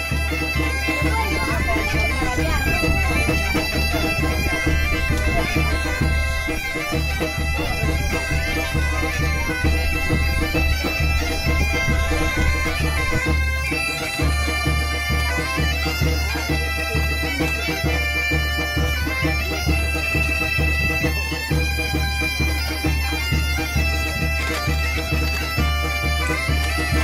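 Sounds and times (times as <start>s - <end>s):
droning wind instrument melody: 0.0s - 27.0s.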